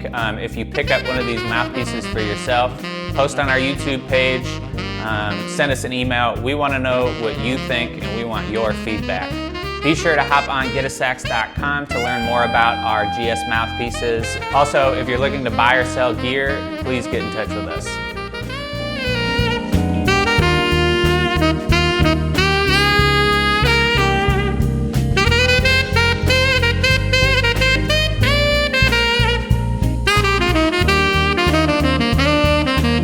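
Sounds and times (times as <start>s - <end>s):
saxophone melody: 0.0s - 33.0s
band with drums and bass: 0.1s - 33.0s.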